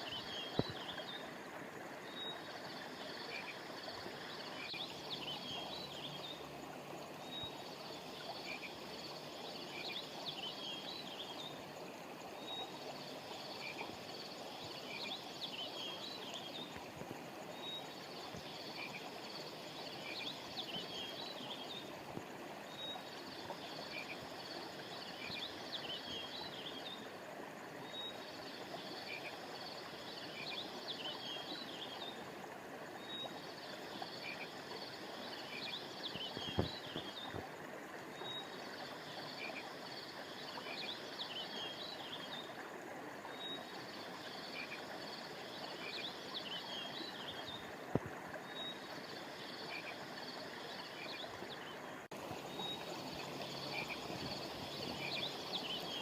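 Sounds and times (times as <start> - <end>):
flowing river: 0.0 - 56.0.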